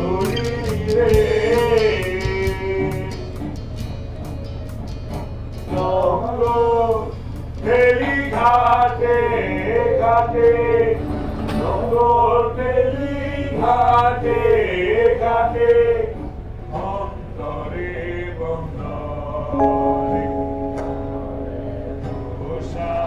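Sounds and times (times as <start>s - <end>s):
men singing long held notes: 0.0s - 3.3s, 5.7s - 23.0s
low steady hum: 0.0s - 23.0s.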